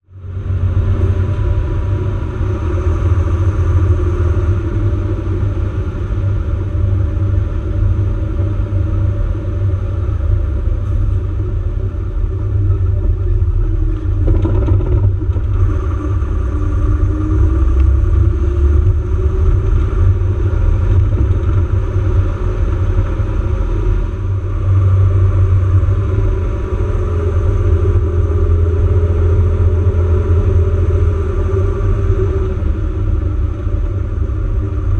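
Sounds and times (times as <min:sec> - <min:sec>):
off-road vehicle engine rumble: 0:00.0 - 0:34.9.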